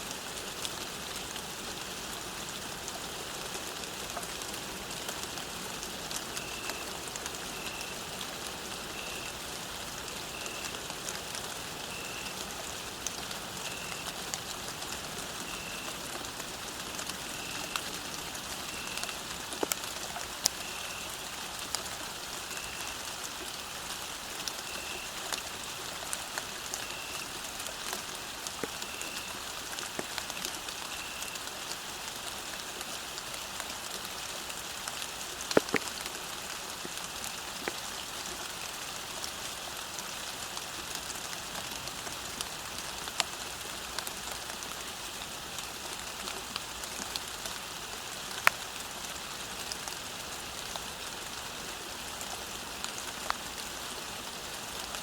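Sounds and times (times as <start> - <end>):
rain falling on a path: 0.0 - 55.0.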